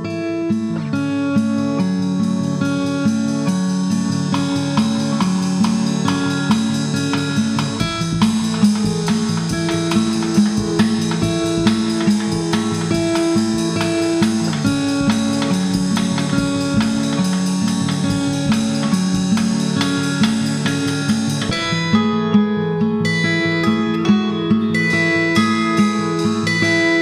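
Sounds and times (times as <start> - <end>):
acoustic guitar picking: 0.0 - 27.0.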